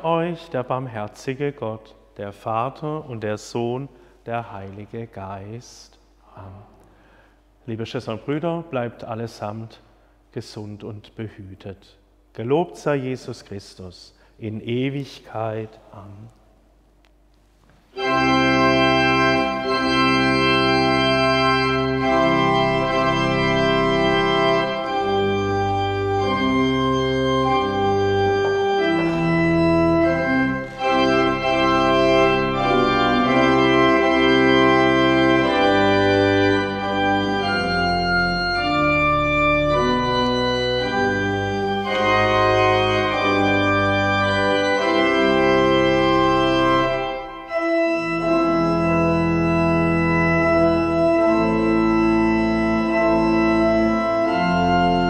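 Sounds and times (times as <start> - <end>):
church organ chords: 0.0 - 16.8, 17.9 - 55.0.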